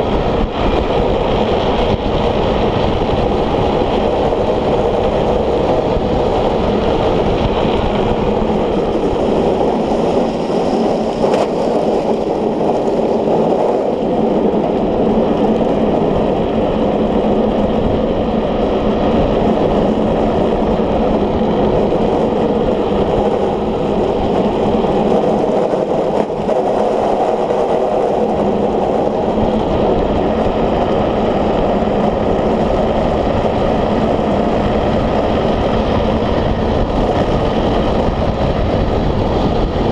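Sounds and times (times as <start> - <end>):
wind buffeting microphone: 0.0 - 39.9
wind rush and tyre noise: 0.0 - 39.9.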